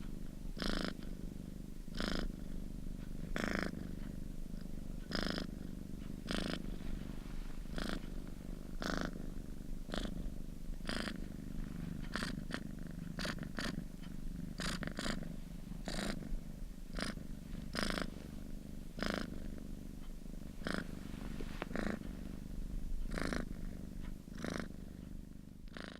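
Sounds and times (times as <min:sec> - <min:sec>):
cat purring: 0:00.0 - 0:25.9.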